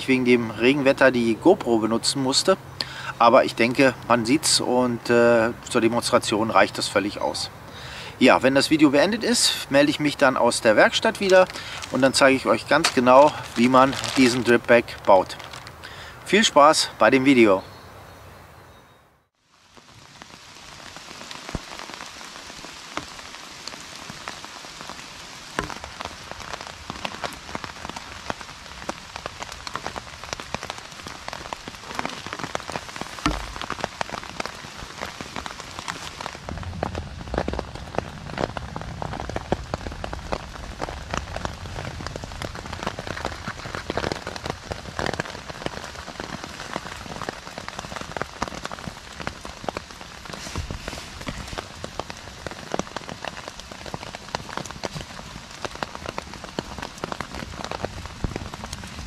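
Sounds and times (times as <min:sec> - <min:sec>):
rain on a tarp: 0:00.0 - 0:17.5, 0:19.3 - 0:59.0.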